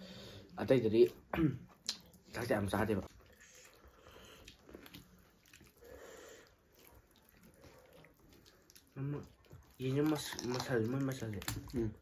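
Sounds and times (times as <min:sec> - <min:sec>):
quiet chewing: 0:00.4 - 0:12.0.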